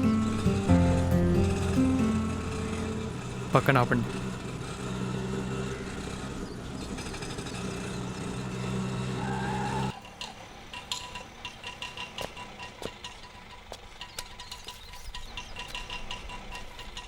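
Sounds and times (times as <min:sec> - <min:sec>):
auto-rickshaw engine running: 0:00.0 - 0:17.0.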